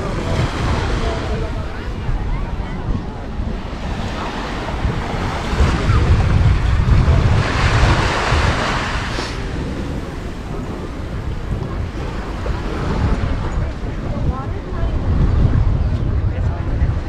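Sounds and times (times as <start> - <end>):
ocean surf on sandy beach: 0.0 - 17.0
wind rumbling on microphone: 0.0 - 17.0.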